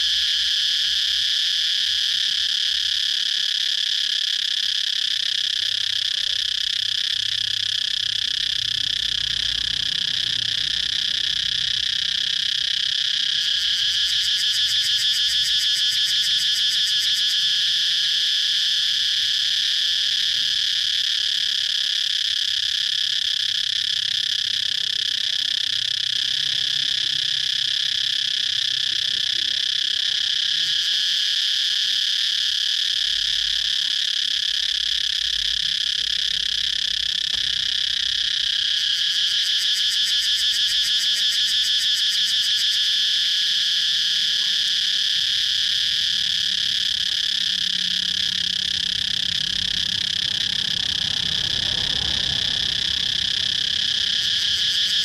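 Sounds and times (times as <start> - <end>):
cicadas droning: 0.0 - 55.0
fast pulsing insect call: 0.0 - 55.0.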